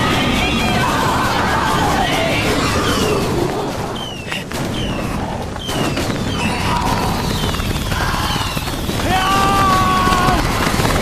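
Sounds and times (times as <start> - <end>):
fireworks whistling: 0.0 - 11.0.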